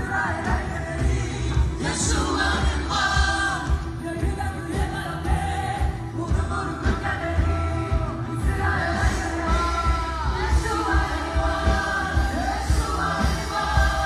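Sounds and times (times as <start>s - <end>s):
band with heavy beat: 0.0s - 14.0s.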